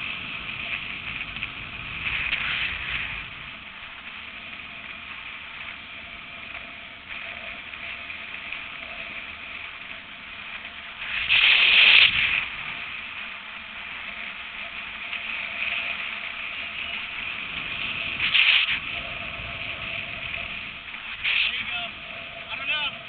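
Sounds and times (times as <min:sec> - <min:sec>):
longboard wheels rolling on asphalt: 0:00.0 - 0:23.0
wind hiss across microphone: 0:00.0 - 0:23.0.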